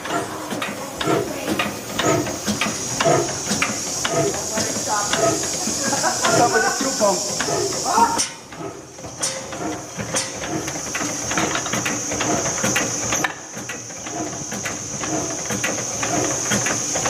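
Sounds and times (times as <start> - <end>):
engine mechanical clatter: 0.0 - 17.0.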